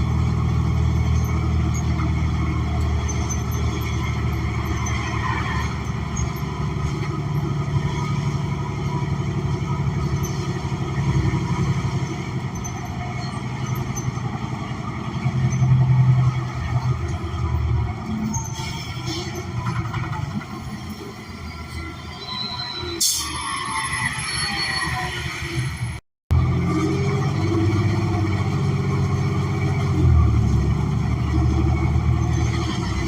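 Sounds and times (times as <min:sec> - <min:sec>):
bus engine droning: 0:00.0 - 0:33.0.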